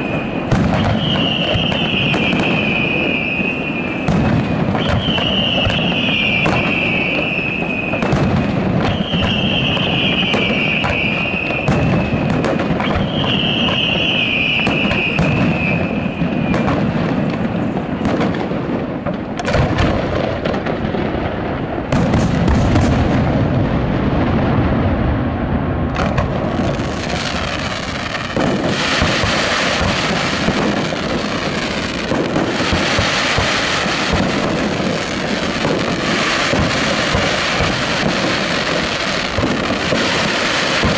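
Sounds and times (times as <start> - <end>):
falling firework whistles: 0.0 - 40.9
hissing crackle of fireworks: 0.0 - 40.9.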